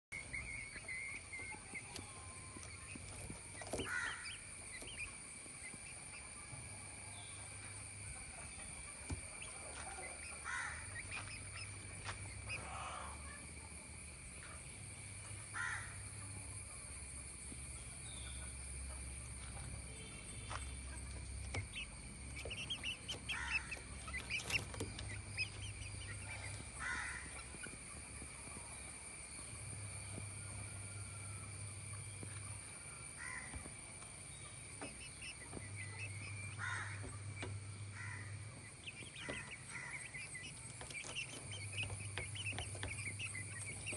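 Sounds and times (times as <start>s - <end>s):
low hum: 0.1s - 43.9s
steady high-pitched drone: 0.1s - 43.9s.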